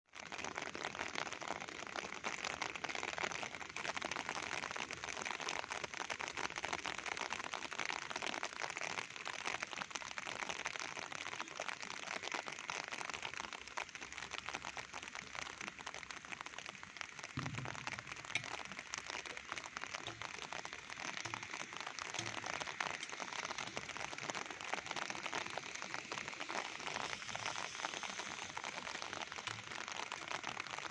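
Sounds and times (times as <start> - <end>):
steady rain falling: 0.1 - 30.9.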